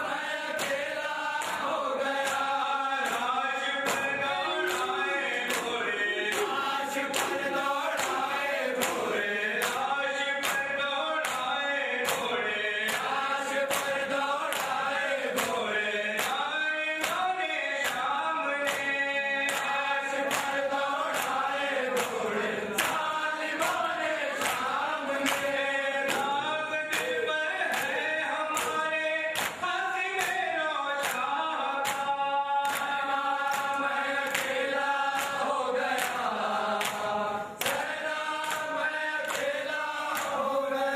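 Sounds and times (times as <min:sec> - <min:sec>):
group of voices chanting: 0:00.0 - 0:40.9
beat of sharp slaps: 0:00.1 - 0:16.4, 0:17.0 - 0:40.7.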